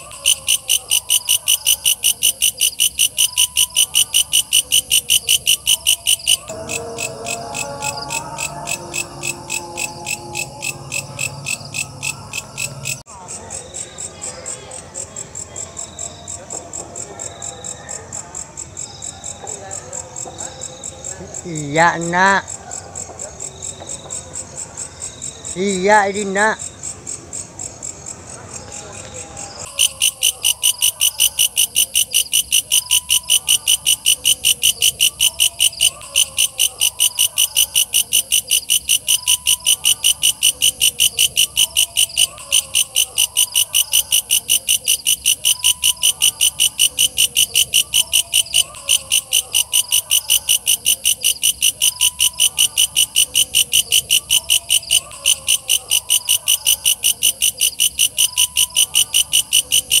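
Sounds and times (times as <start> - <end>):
insect chirping in rasping pulses: 0.0 - 14.1, 20.0 - 60.0.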